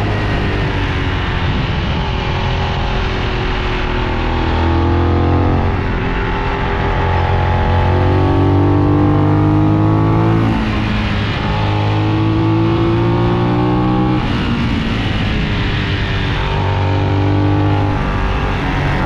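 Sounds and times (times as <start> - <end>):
motorcycle engine revving: 0.0 - 19.0
wind and road rush: 0.0 - 19.0.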